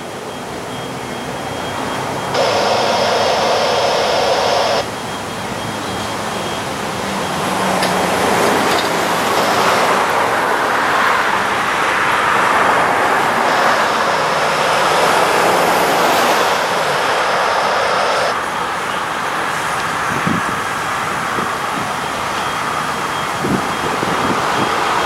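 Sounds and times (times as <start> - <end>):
diesel locomotive engine running: 0.0 - 25.0.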